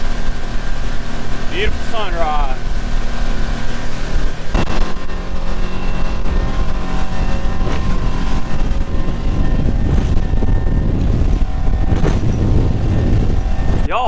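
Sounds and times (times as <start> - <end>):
motorboat engine drone: 0.0 - 14.0
rushing wind and water: 0.0 - 14.0.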